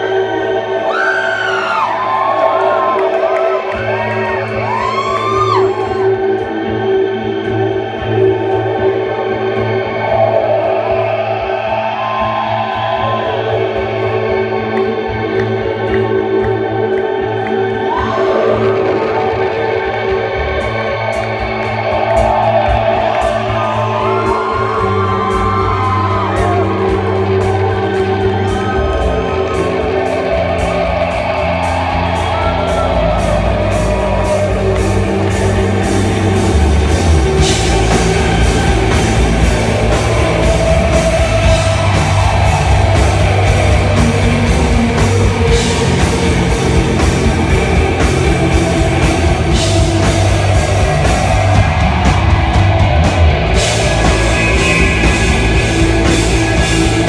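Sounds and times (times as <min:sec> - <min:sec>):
bass guitar: 0:00.0 - 0:57.0
drums: 0:00.0 - 0:57.0
electric guitars: 0:00.0 - 0:57.0.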